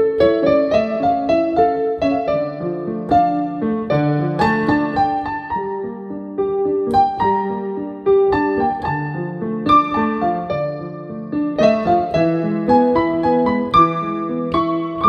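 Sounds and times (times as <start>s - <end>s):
digital piano chords and melody: 0.0s - 15.0s.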